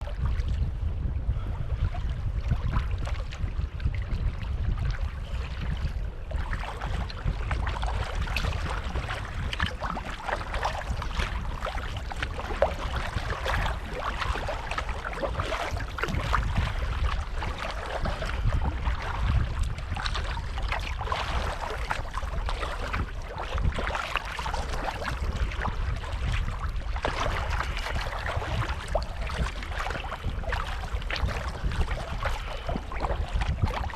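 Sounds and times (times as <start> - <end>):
water splashing around kayak: 0.0 - 33.9
wind rumbling on microphone: 0.0 - 33.9.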